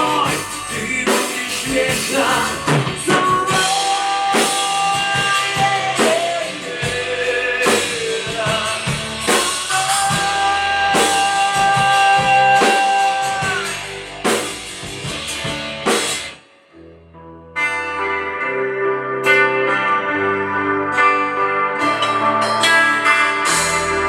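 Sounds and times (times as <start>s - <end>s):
rock band playing: 0.0s - 16.6s, 17.5s - 24.0s
guitar playing: 0.0s - 24.0s.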